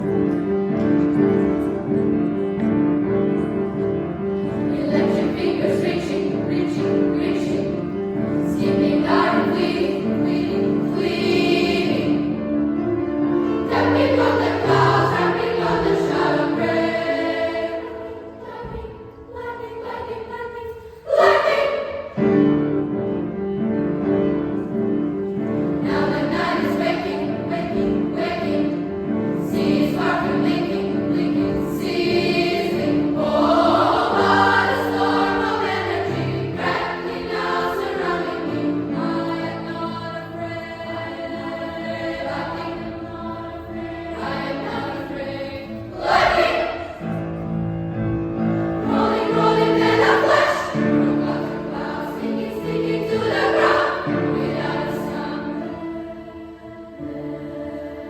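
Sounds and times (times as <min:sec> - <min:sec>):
children's choir singing: 0:00.0 - 0:22.7, 0:25.3 - 0:47.5, 0:48.4 - 0:58.0
piano chords: 0:00.0 - 0:58.0.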